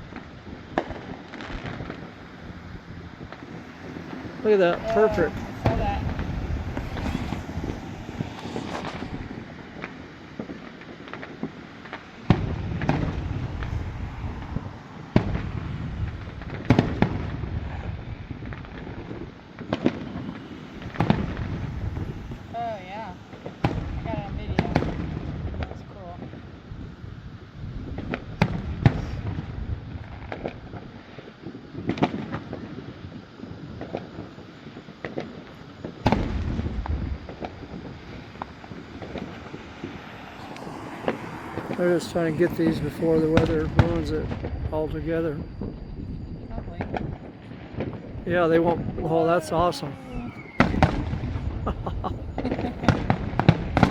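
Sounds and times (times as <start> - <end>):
distant fireworks bangs: 0.0 - 27.0, 27.7 - 46.1, 46.8 - 53.9.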